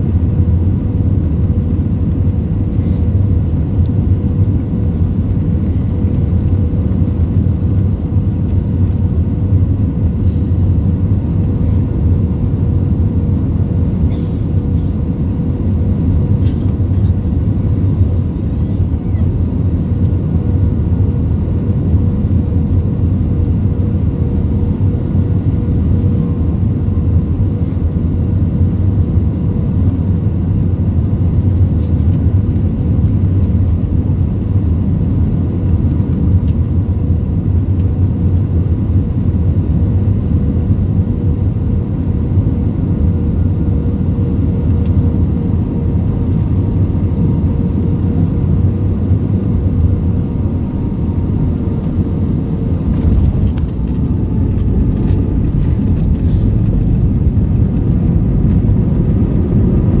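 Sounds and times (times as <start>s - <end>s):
airplane cabin engine rumble: 0.0s - 60.0s.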